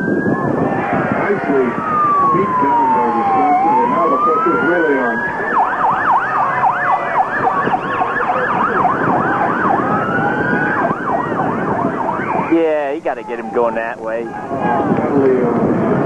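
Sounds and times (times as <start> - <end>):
siren yelping and wailing: 0.0 - 15.2
noisy background: 0.0 - 16.0.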